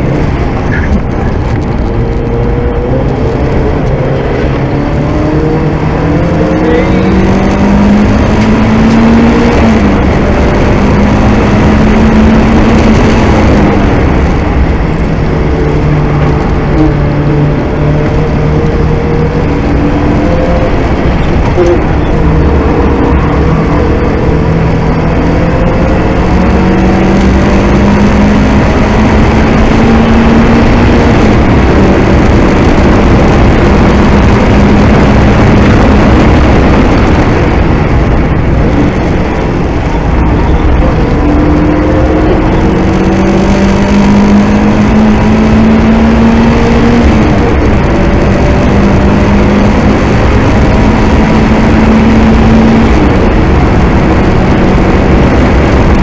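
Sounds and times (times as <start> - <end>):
car engine revving hard: 0.0 - 56.0
wind and road noise: 0.0 - 56.0.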